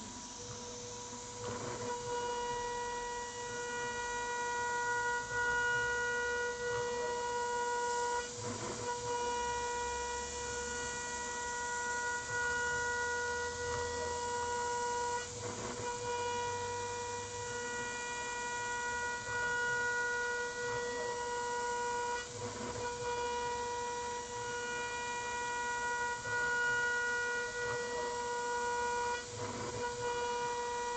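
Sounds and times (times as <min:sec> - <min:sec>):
router spindle high whine: 0:00.0 - 0:30.9.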